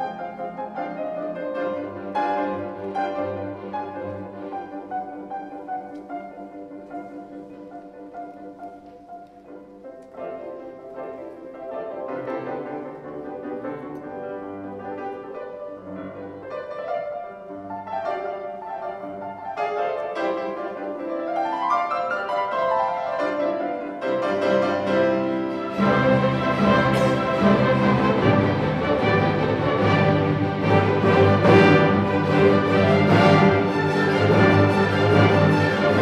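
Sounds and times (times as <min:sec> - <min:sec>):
orchestral music with piano: 0:00.0 - 0:36.0.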